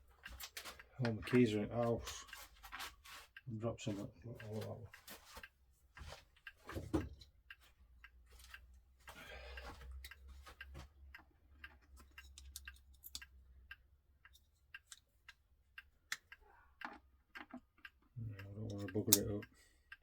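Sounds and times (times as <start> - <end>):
clock ticking: 0.0 - 20.0.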